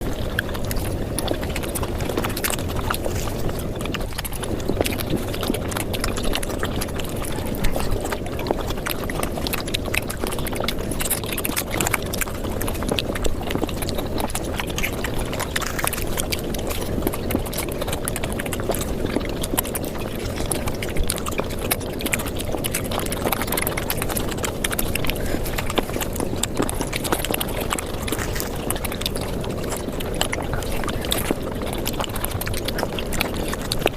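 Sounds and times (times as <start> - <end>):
sped-up chewing and mouth noises: 0.0 - 33.9
steady low rumble: 0.0 - 33.9.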